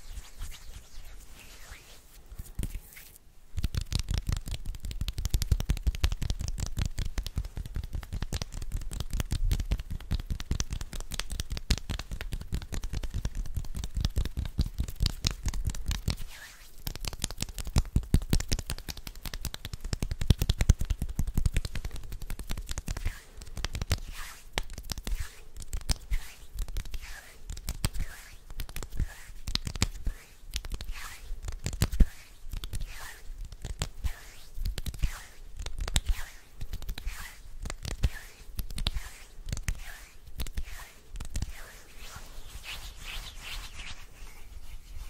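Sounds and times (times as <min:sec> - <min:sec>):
crackling taps and rubs: 0:00.0 - 0:45.0.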